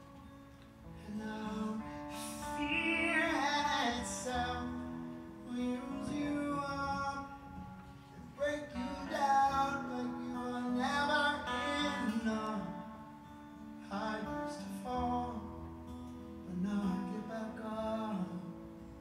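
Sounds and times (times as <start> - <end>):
strummed acoustic guitar: 0.0 - 19.0
man singing: 1.0 - 13.1, 13.8 - 15.5, 16.4 - 18.8.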